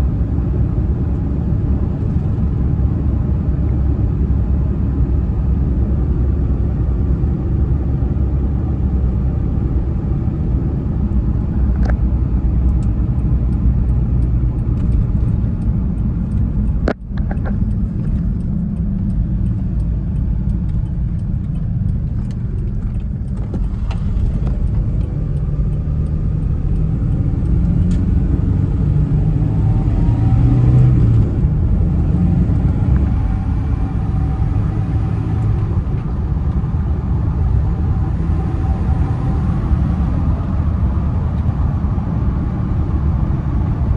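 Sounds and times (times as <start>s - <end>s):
road rumble: 0.0s - 43.9s.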